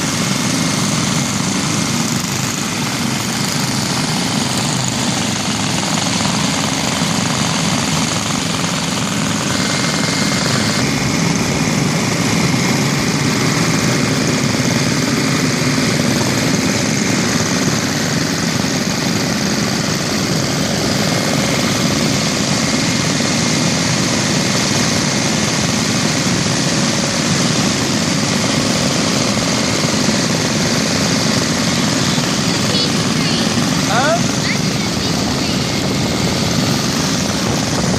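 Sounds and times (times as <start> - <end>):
many small engines running: 0.0 - 37.9.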